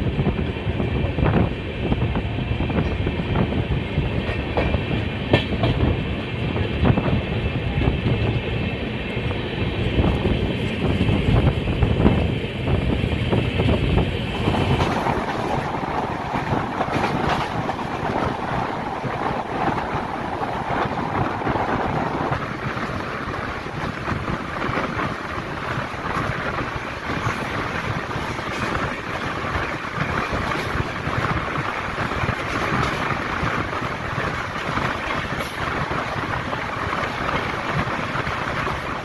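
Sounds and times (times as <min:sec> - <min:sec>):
passing train: 0:00.0 - 0:39.0
train rushing at speed: 0:00.0 - 0:39.0
wind buffeting microphone: 0:00.0 - 0:39.0.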